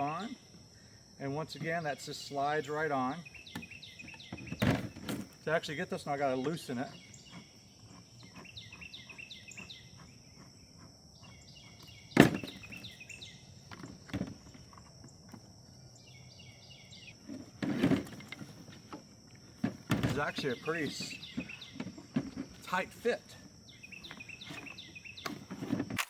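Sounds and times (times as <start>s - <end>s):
birds chirping: 0.0s - 25.8s.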